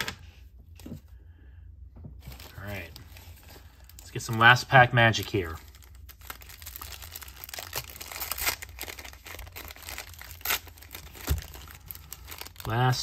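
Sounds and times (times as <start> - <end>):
wrapper crinkling and tearing: 2.2 - 13.0.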